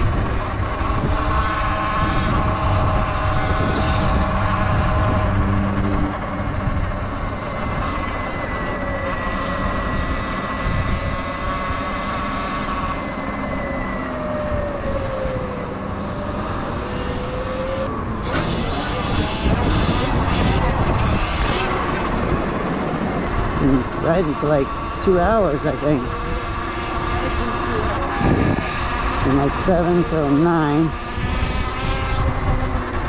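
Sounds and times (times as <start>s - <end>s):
electric motor whine: 0.0s - 33.0s
wind and road rumble: 0.0s - 33.0s.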